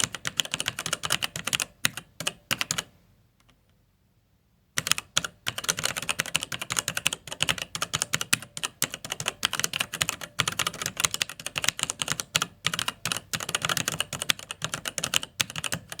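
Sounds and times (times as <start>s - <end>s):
fast typing on keyboard: 0.0s - 2.9s, 4.8s - 16.0s.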